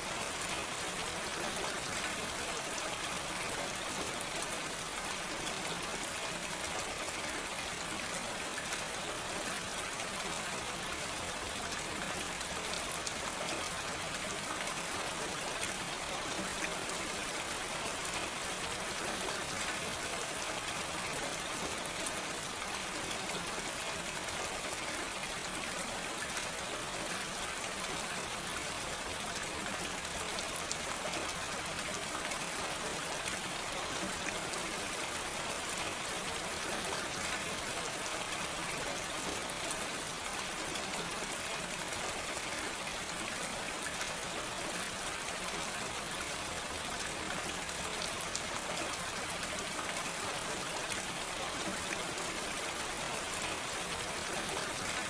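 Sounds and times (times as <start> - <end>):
gentle rain: 0.0 - 55.0.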